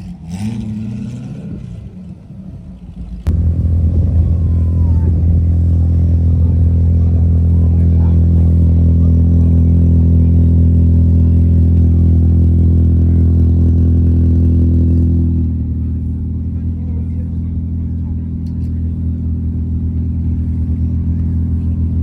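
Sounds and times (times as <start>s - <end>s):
vehicle engine idling: 1.7s - 22.0s.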